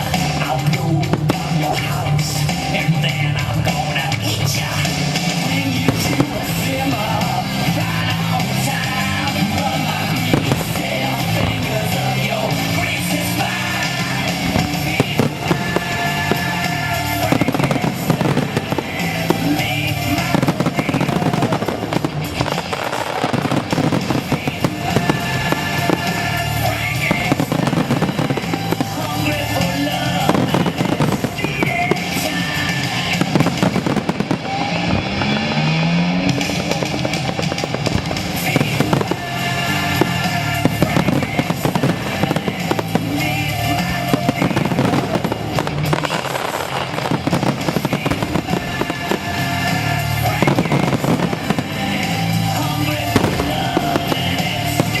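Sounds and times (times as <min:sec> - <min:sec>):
fireworks bangs and crackles: 0:00.0 - 0:55.0
loud music: 0:00.0 - 0:55.0.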